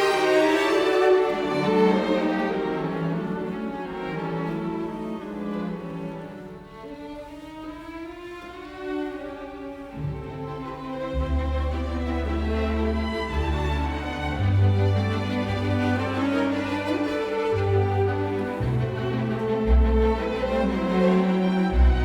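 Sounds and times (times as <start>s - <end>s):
bowed violin and cello: 0.0s - 22.0s.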